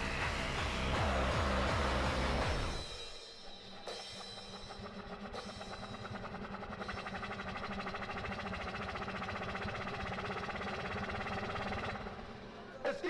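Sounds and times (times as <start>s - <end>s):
hardcore electronic dance music: 0.0s - 13.0s.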